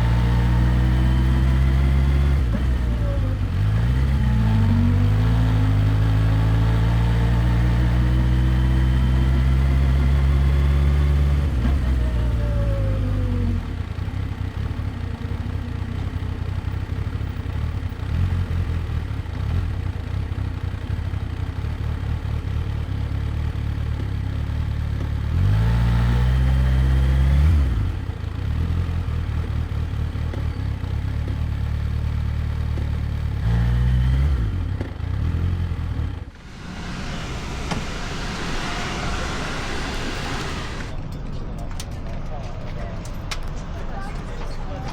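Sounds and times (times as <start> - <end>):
motorcycle engine revving and idling: 0.0 - 41.0.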